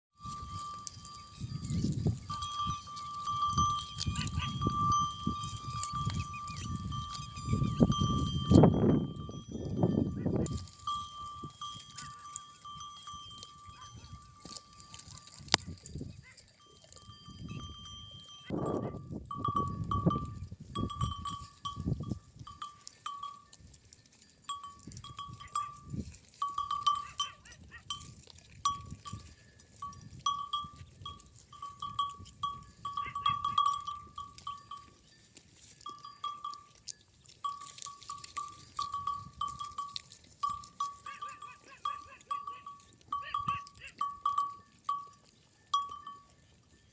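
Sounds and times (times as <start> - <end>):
sheep bell clanking: 0.2 - 46.9.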